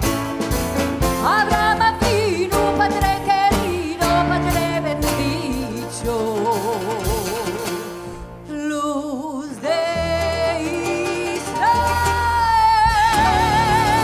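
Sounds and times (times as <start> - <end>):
live band playing: 0.0 - 14.0
woman singing with vibrato: 1.2 - 14.0.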